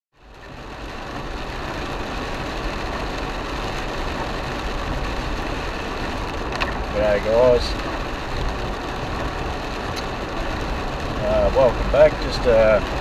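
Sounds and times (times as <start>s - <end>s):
engine hum: 0.2s - 13.0s
tyre noise on wet road: 0.2s - 13.0s.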